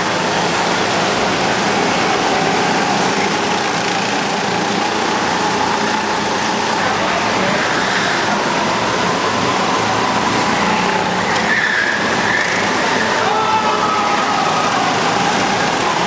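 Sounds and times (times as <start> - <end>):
go-kart engines droning: 0.0 - 16.0.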